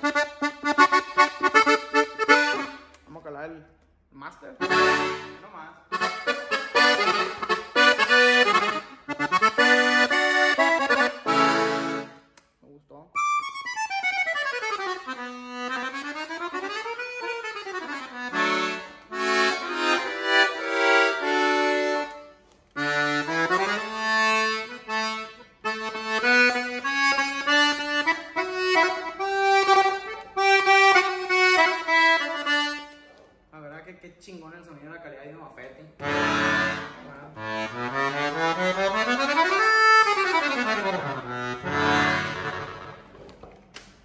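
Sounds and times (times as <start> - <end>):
button accordion playing: 0.0 - 3.1, 4.5 - 12.4, 13.2 - 33.3, 36.0 - 43.4.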